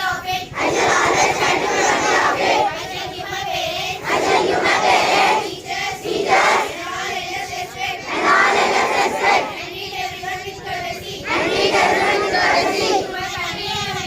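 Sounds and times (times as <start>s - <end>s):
children singing in unison: 0.0s - 14.0s.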